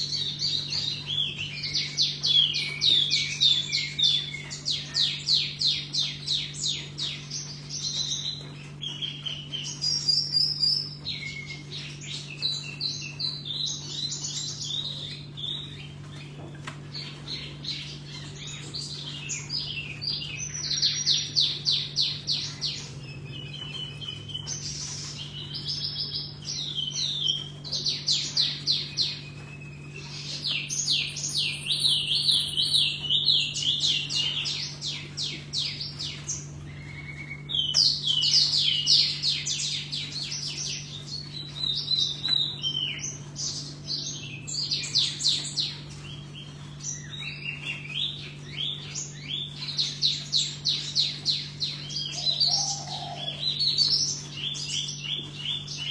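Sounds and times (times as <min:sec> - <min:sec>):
songbird singing: 0:00.0 - 0:55.9
steady low hum: 0:00.0 - 0:55.9.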